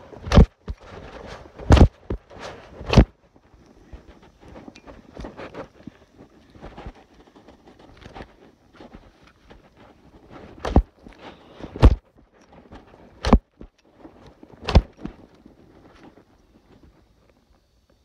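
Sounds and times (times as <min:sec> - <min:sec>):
footsteps crunching dry litter: 0:00.0 - 0:17.6.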